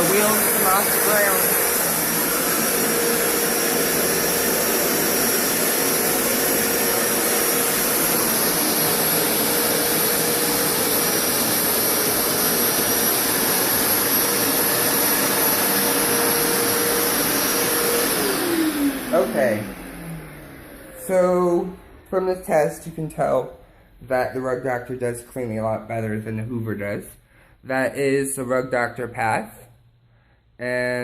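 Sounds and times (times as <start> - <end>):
carpet cleaner whining: 0.0 - 26.1.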